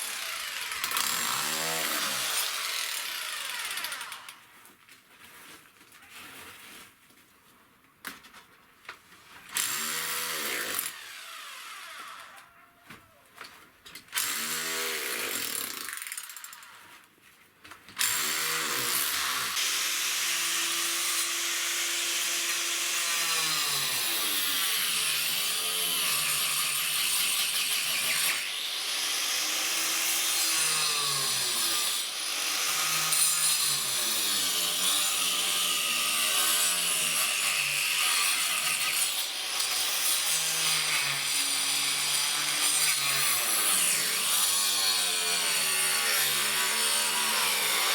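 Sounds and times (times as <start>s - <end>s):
power saw cutting wood: 0.0s - 4.5s, 9.5s - 12.5s, 14.1s - 17.0s, 18.0s - 47.9s.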